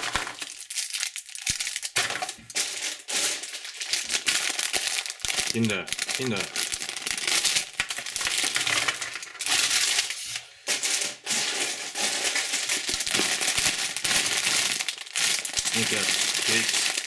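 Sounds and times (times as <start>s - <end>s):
candy wrappers crinkling: 0.0s - 17.0s.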